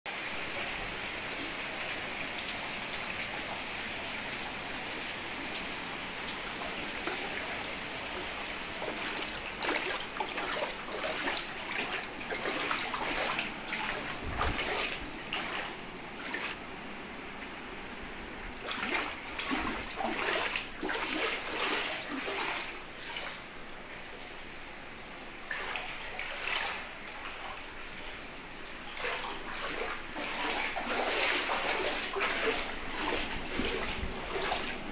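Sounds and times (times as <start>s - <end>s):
feet wading through water: 0.1s - 16.6s, 18.5s - 24.2s, 25.4s - 34.9s
rain falling on water: 0.1s - 34.9s.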